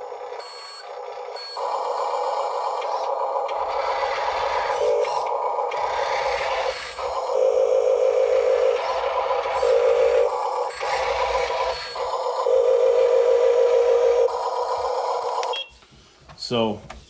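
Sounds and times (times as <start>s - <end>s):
small electric motor whining: 0.0s - 15.6s.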